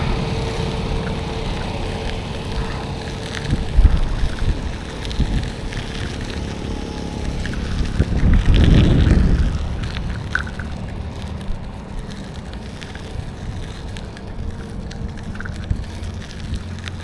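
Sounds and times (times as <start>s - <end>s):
road traffic rumble: 0.0s - 17.0s
wind on microphone: 0.0s - 17.0s.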